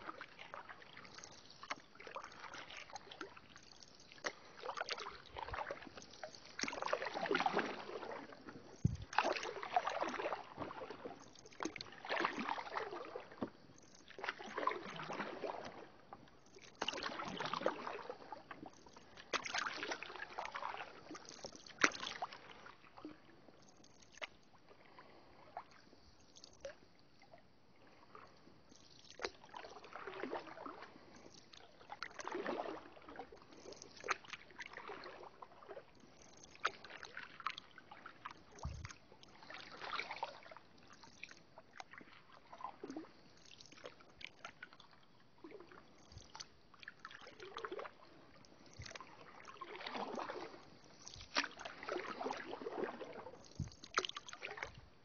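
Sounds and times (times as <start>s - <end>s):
paddle swishing through water: 0.0s - 55.0s.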